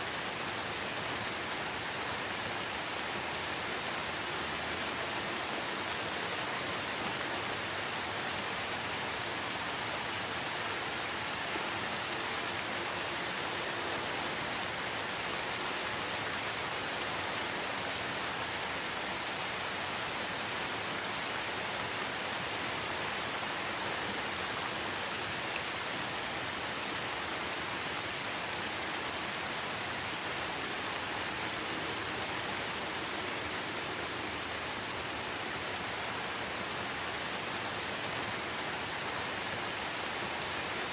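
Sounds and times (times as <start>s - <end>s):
rain hiss: 0.0s - 40.9s.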